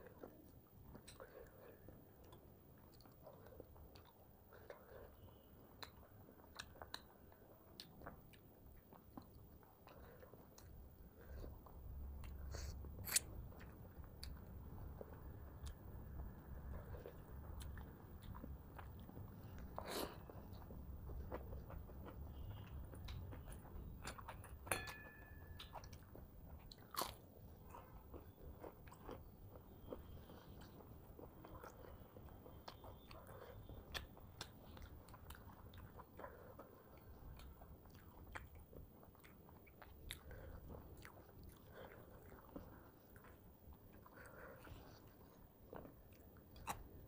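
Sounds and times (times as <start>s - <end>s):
person chewing food: 0.0s - 47.0s.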